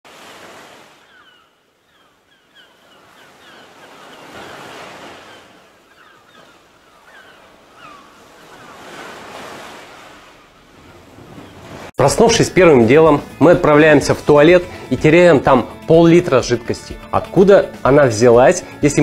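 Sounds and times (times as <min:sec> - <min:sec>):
waves washing: 0:00.0 - 0:19.0.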